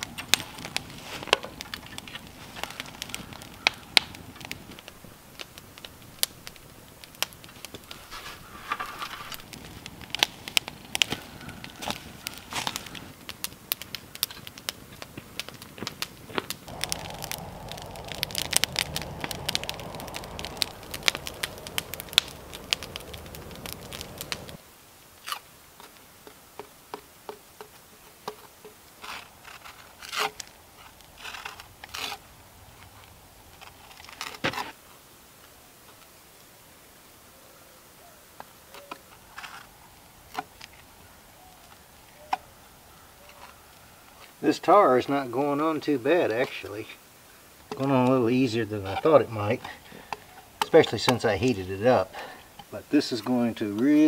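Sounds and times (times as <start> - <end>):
campfire crackling and popping: 0.0 - 37.2, 38.2 - 54.0
steady rushing hiss: 0.0 - 54.0.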